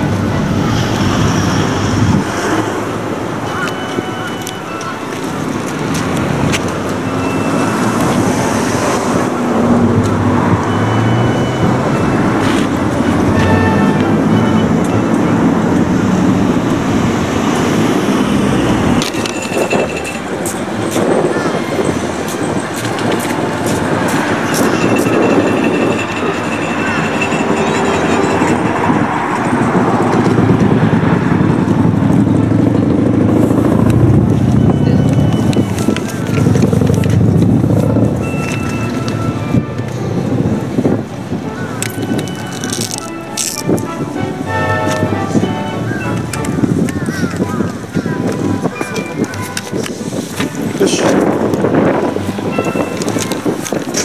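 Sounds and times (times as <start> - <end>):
road traffic passing: 0.0 - 54.0
wind buffeting microphone: 0.0 - 54.0.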